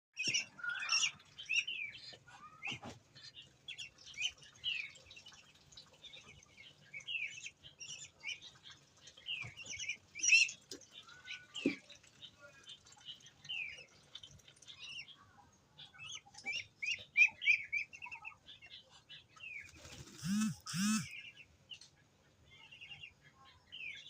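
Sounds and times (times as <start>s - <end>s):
birds chirping: 0.2s - 24.0s.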